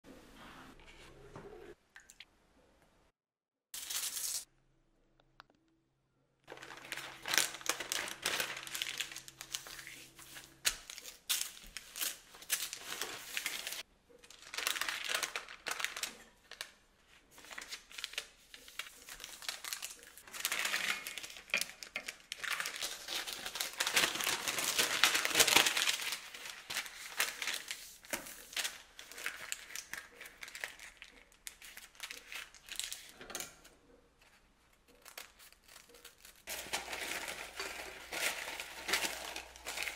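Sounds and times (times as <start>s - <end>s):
crinkly material rustling: 6.5s - 33.2s, 34.3s - 39.9s.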